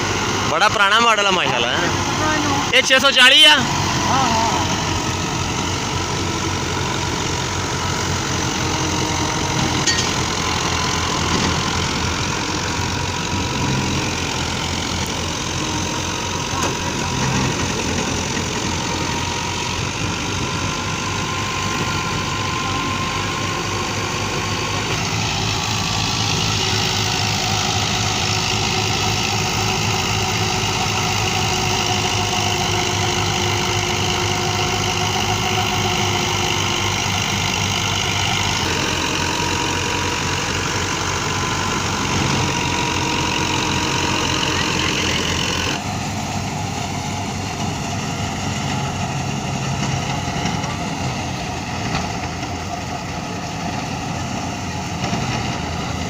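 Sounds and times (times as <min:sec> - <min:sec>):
thresher rushing noise: 0:00.0 - 0:49.6
diesel tractor engine running: 0:00.0 - 0:56.0.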